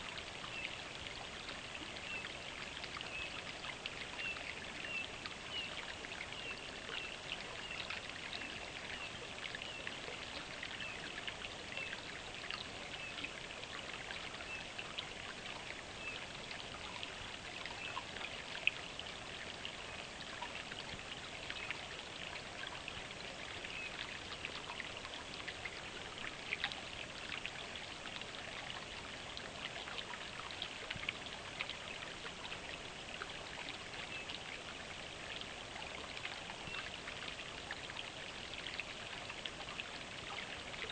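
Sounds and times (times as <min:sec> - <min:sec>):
brook burbling: 0:00.0 - 0:40.9.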